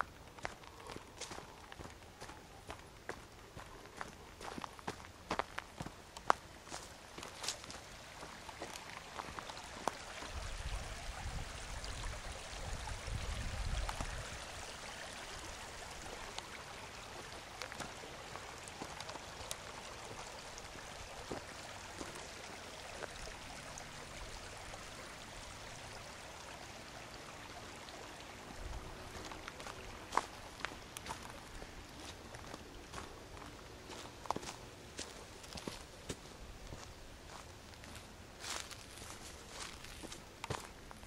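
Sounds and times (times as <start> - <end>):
water babbling over stones: 0.0 - 41.0.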